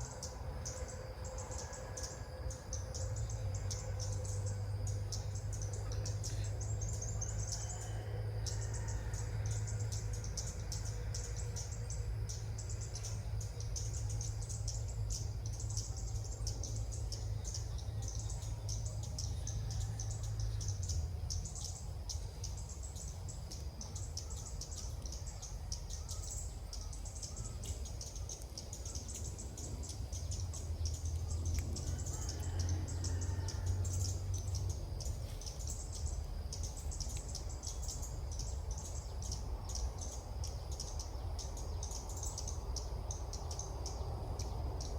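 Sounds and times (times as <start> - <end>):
birds chirping chorus: 0.0 - 44.9
steady low hum: 0.0 - 44.9.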